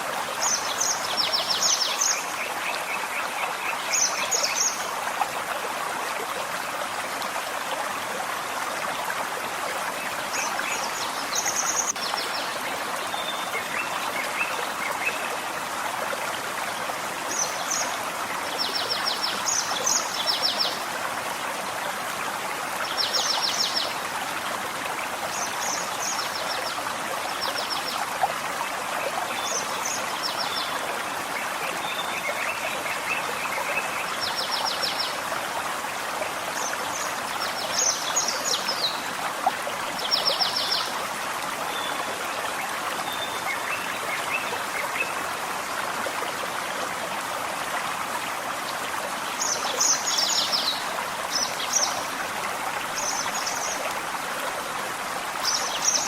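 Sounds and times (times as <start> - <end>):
stream burbling: 0.0 - 56.0.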